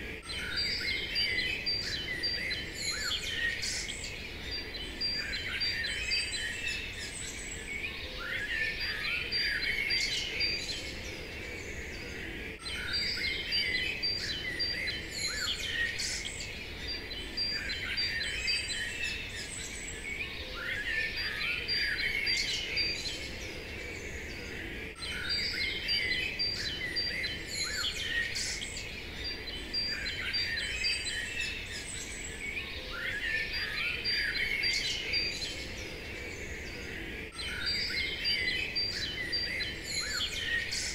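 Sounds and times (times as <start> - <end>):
small birds chirping and singing: 0.0 - 40.9.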